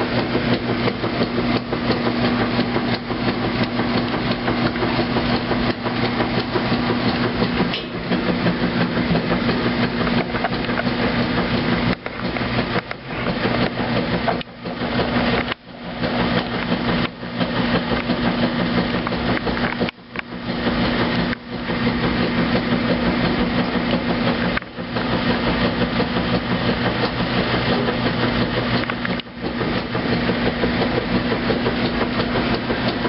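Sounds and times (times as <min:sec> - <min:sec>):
washing machine clatter and knocking: 0:00.0 - 0:33.0
washing machine motor hum: 0:00.0 - 0:33.0.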